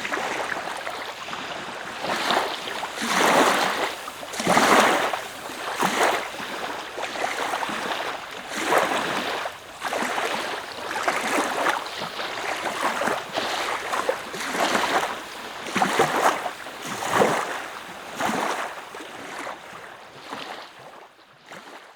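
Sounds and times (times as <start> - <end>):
water sloshing and splashing: 0.0 - 17.6.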